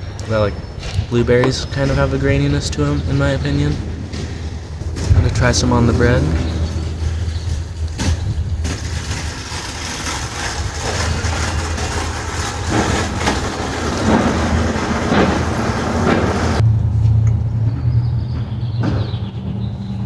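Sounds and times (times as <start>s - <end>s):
engine rumble: 0.0s - 20.0s
road noise: 0.0s - 20.0s.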